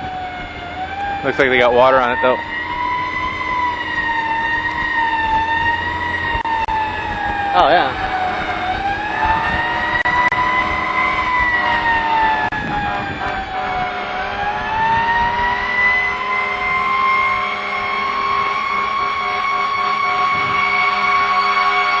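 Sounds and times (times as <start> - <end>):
fire truck siren wailing: 0.0 - 22.0
truck driving: 0.0 - 22.0.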